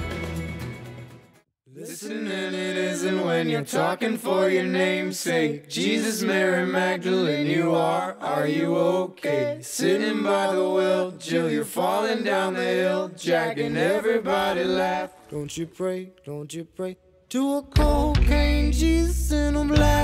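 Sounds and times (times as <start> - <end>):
unaccompanied chant-like singing: 1.7 - 20.0.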